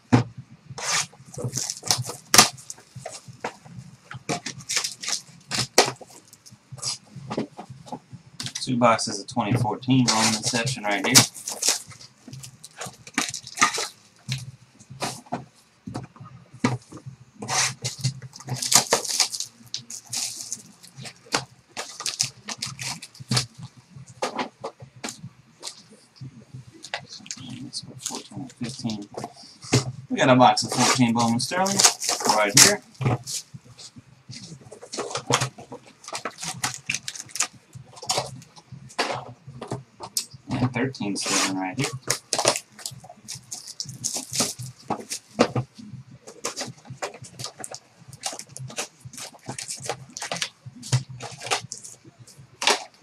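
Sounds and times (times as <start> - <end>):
boxes knocking: 0.0 - 8.7, 9.4 - 53.0
plastic wrap crinkling: 0.0 - 53.0.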